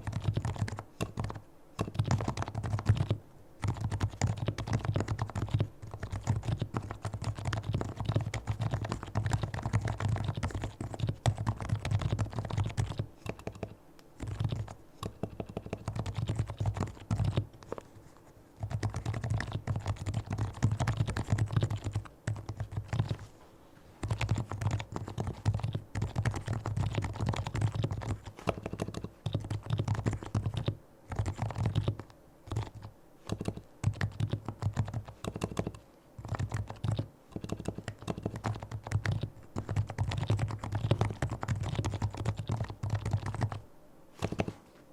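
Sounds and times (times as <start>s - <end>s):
fast keyboard typing: 0.0s - 17.8s, 18.6s - 23.3s, 24.0s - 43.6s, 44.2s - 44.6s.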